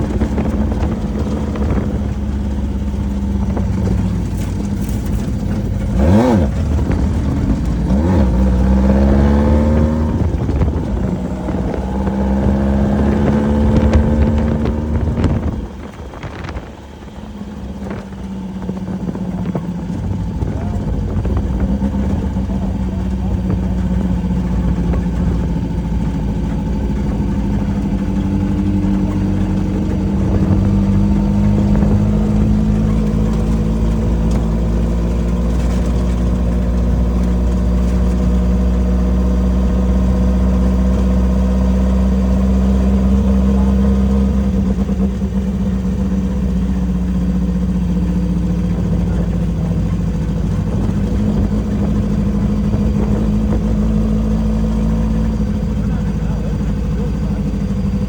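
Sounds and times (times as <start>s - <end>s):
race vehicle engine running: 0.0s - 58.0s.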